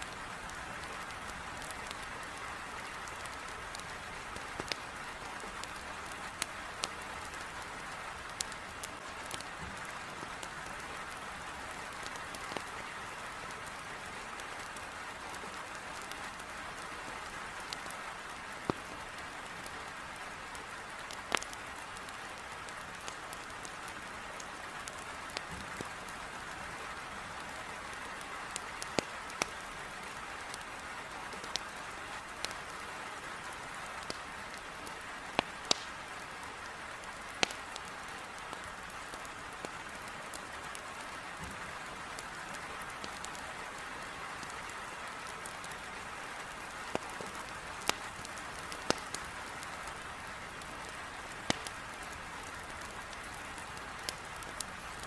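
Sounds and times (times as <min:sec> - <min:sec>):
firewood crackling and popping: 0:00.0 - 0:55.0
heavy rain on a window: 0:00.0 - 0:55.0.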